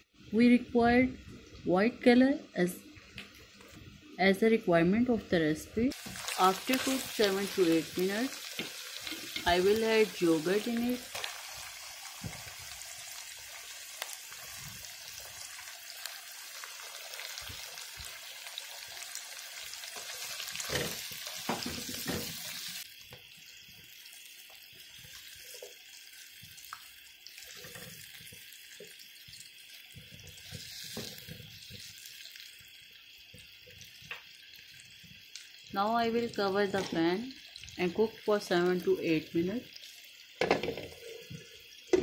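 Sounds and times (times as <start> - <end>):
food sizzling in frying pan: 5.9 - 42.0.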